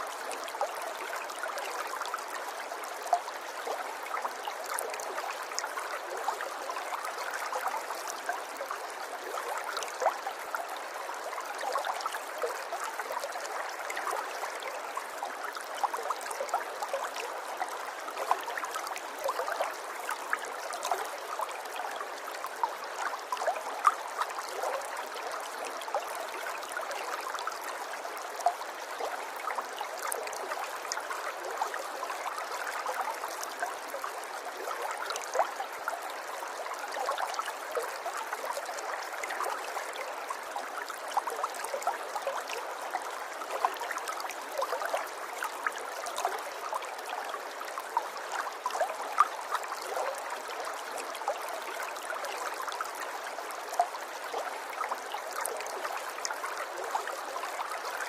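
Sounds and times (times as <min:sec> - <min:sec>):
river water babbling: 0:00.0 - 0:58.0
water trickling and splashing: 0:00.0 - 0:58.0.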